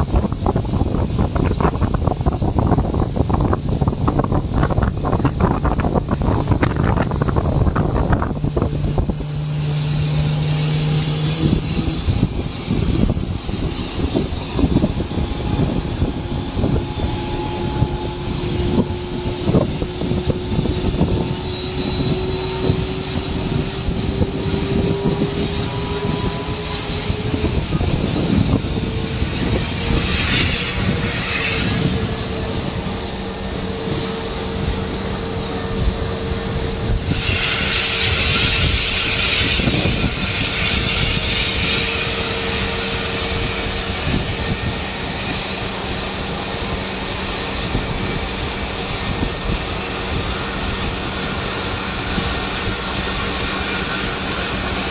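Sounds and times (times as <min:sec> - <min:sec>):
aircraft engines rushing: 0:00.0 - 0:54.9
rising engine whine: 0:00.0 - 0:54.9.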